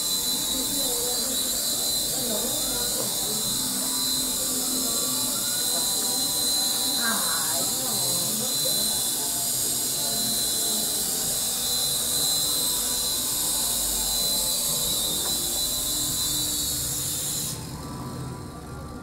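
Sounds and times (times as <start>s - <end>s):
small helicopter rotors whining: 0.0s - 19.0s.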